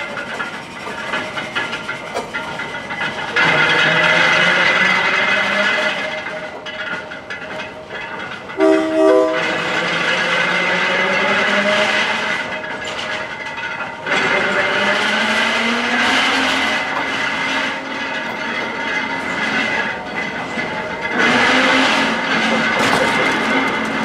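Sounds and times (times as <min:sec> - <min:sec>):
diesel locomotive engine running: 0:00.0 - 0:24.0.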